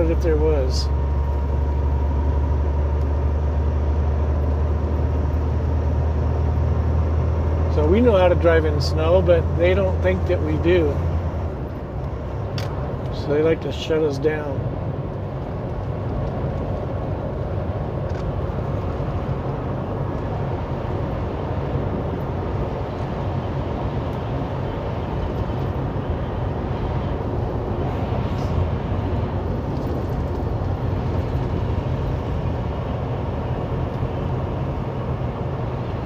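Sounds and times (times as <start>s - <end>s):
road noise: 0.0s - 36.0s
truck engine drone: 0.0s - 36.0s.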